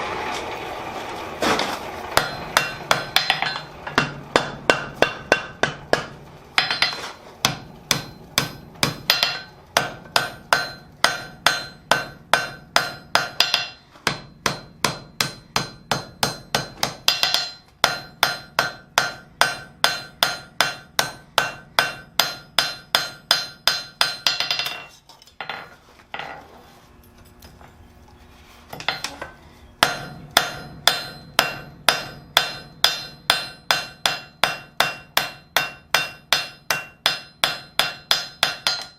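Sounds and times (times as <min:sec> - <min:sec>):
hammer striking steel on anvil: 0:02.2 - 0:26.4, 0:28.7 - 0:38.9.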